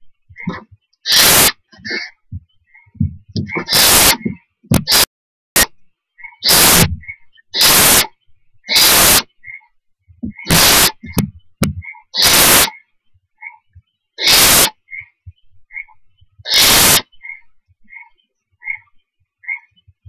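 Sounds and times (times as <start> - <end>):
owl chicks hissing calls: 0.4 - 9.7, 10.3 - 19.7.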